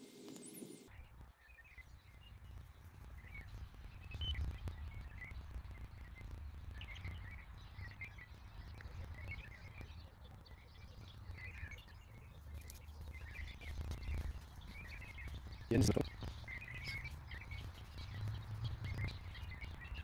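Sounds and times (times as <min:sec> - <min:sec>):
small birds chirping: 0:00.0 - 0:20.0
wind rumble on microphone: 0:00.9 - 0:20.0.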